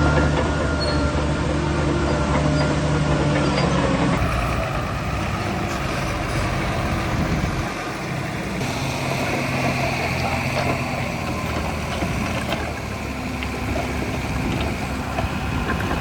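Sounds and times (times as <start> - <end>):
heavy machinery diesel engine: 0.0 - 16.0.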